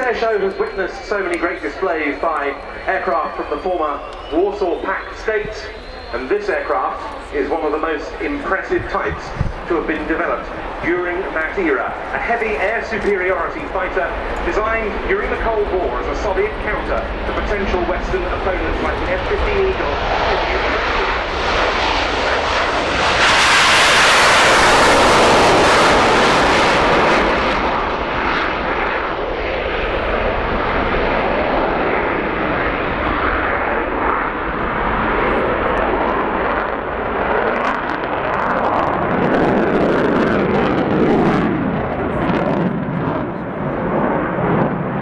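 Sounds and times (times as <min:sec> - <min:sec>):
jet engine roar: 0:00.0 - 0:45.0.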